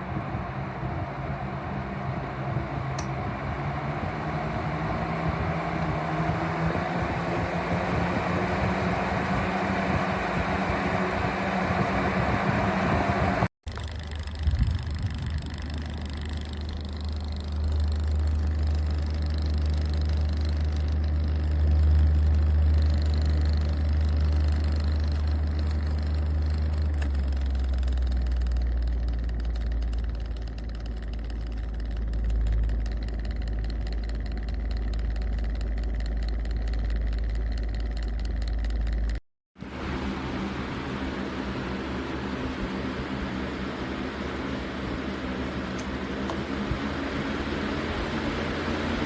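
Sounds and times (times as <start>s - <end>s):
box fan deep rumble: 0.0s - 49.0s.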